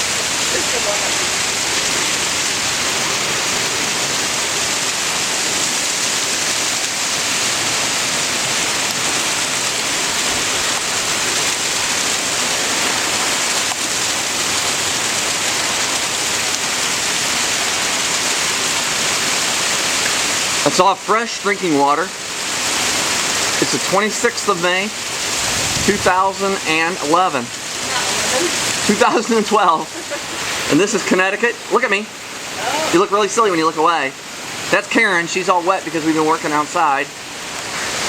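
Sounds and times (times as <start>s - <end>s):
heavy rain splashing: 0.0s - 38.0s.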